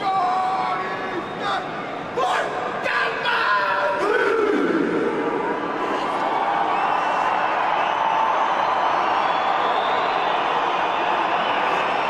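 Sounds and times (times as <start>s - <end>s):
loud stadium crowd din: 0.0s - 12.0s.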